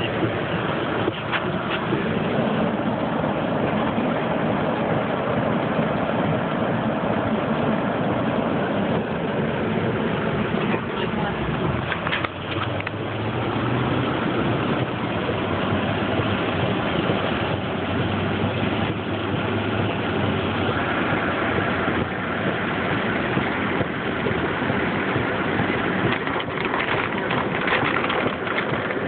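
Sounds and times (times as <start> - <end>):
low engine hum: 0.0 - 29.0
tyres hissing on wet road: 0.0 - 29.0.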